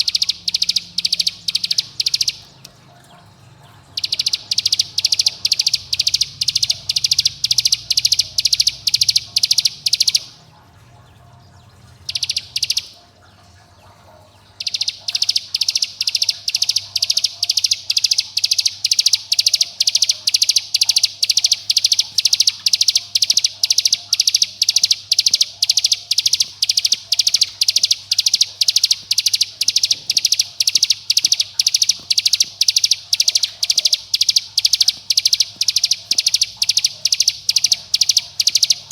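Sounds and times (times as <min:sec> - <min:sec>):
bird rapid high call: 0:00.0 - 0:02.6, 0:03.9 - 0:10.3, 0:12.0 - 0:12.9, 0:14.6 - 0:38.9.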